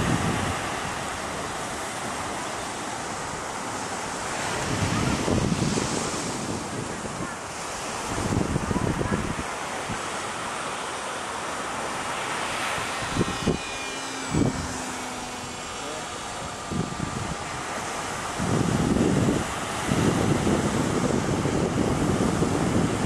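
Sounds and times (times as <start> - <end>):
wind gusts buffeting microphone: 0.0 - 10.9, 11.5 - 23.0
faint electric motor whine: 0.0 - 23.0
surf washing on shore: 0.0 - 23.0
wind: 0.0 - 23.0.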